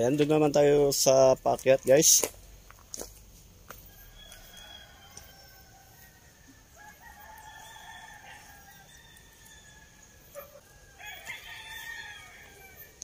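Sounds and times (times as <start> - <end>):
distant bird calls: 2.4 - 13.0.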